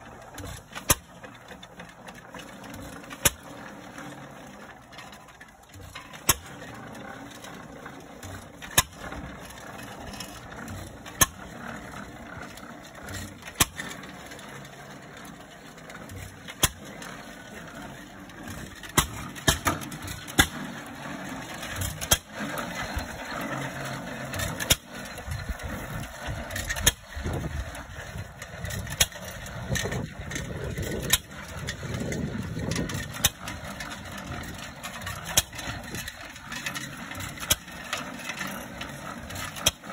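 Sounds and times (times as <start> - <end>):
steel wheels rolling over gravel: 0.0 - 39.9.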